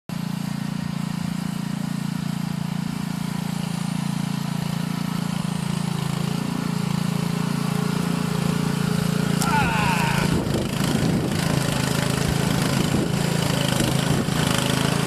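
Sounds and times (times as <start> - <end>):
power barrow engine running: 0.2 - 15.0.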